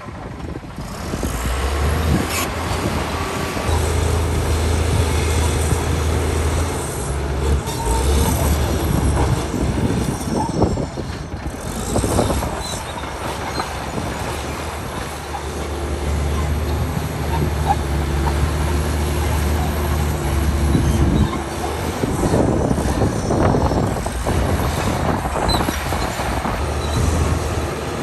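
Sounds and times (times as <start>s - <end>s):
diesel engine humming: 0.2s - 28.0s
steel tracks clanking on rock: 1.7s - 28.0s.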